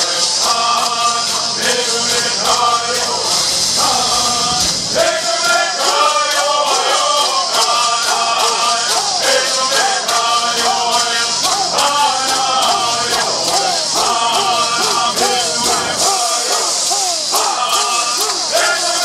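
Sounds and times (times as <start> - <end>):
gourd rattles shaking: 0.0 - 19.0
men singing in unison: 0.0 - 19.0.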